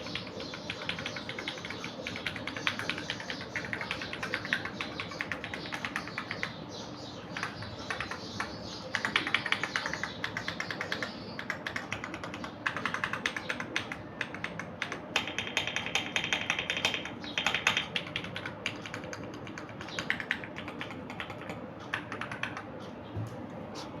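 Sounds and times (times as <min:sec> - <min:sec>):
mechanical keyboard typing: 0:00.0 - 0:06.6, 0:07.4 - 0:22.8.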